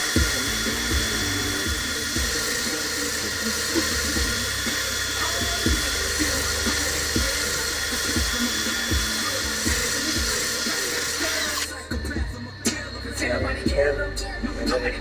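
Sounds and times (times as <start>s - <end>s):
background music beat: 0.0s - 15.0s
drill grinding a blade: 0.0s - 15.0s.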